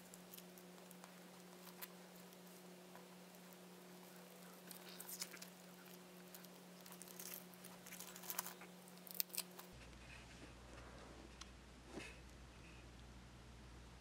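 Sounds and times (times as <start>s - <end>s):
faint crinkling and scraping: 0.0s - 13.1s
low electrical hum: 0.0s - 14.0s.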